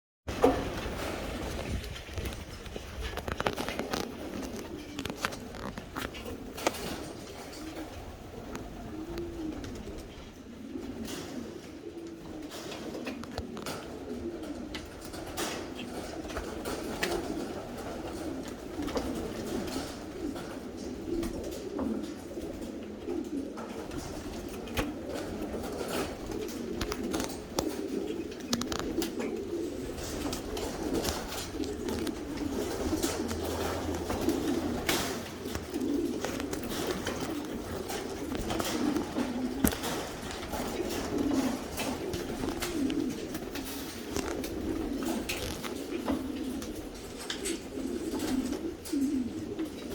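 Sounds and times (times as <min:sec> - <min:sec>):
pigeons cooing: 0:00.3 - 0:49.9.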